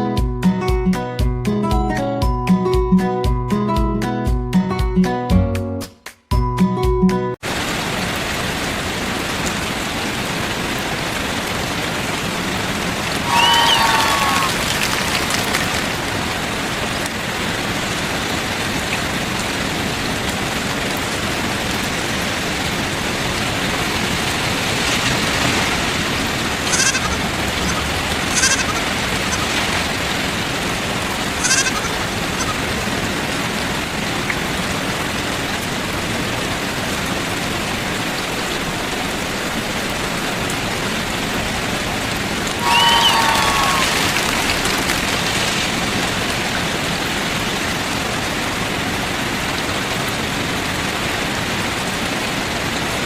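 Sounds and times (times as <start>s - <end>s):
hiss of running water: 7.4s - 52.1s.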